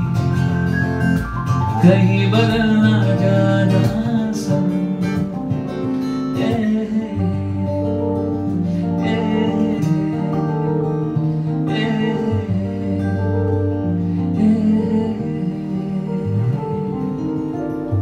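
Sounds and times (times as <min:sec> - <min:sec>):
guitar strummed slowly: 0:00.0 - 0:18.0
sustained keyboard chords: 0:00.0 - 0:18.0.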